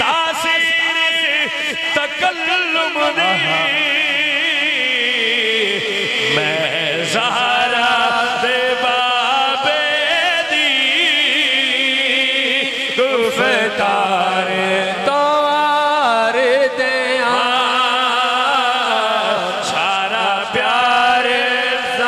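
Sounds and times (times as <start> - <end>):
man singing into microphone: 0.0 - 22.0.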